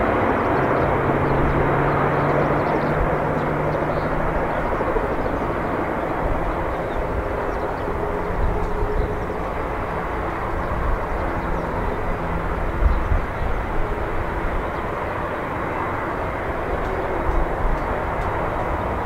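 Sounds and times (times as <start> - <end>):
jet airliner landing rumble: 0.0 - 19.0.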